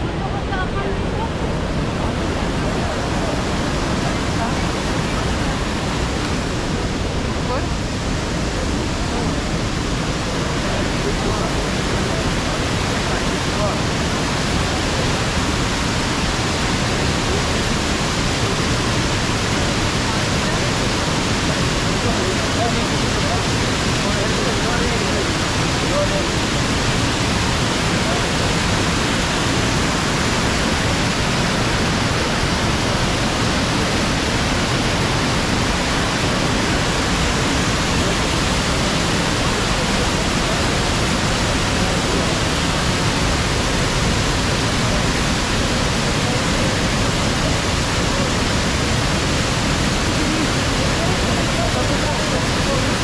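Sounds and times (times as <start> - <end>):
rush of falling water: 0.0 - 53.0.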